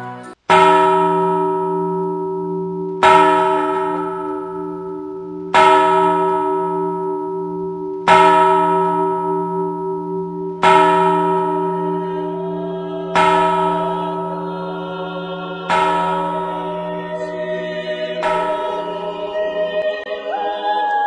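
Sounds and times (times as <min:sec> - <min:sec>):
church bell tolling: 0:00.0 - 0:20.1.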